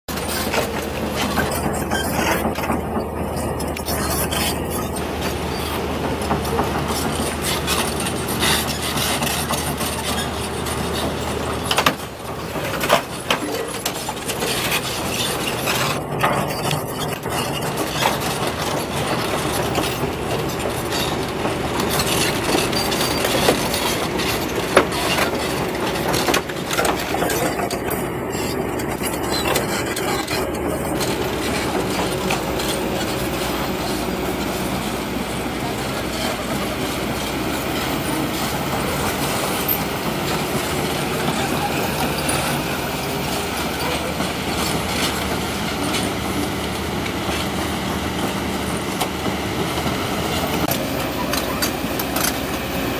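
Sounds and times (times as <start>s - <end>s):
excavator engine running: 0.1s - 52.9s
metallic clanking of steel tracks: 0.1s - 52.9s.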